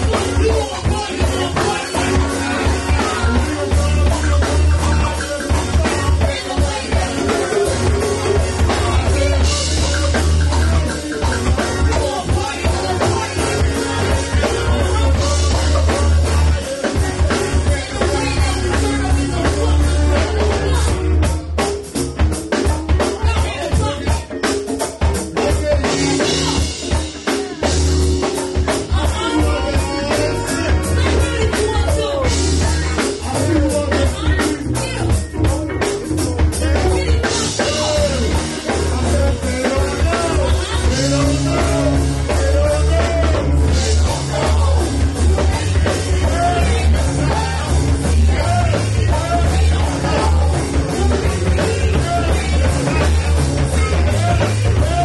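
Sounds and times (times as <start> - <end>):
people singing: 0.0 - 21.7, 22.6 - 55.0
drum kit: 0.0 - 55.0
electric guitar: 0.0 - 55.0.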